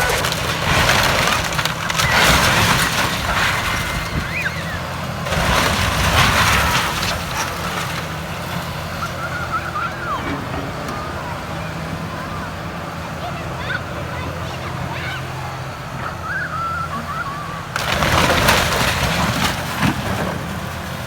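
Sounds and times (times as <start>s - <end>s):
crunching and crashing debris: 0.0s - 21.0s
demolition machine engine hum: 0.0s - 21.0s.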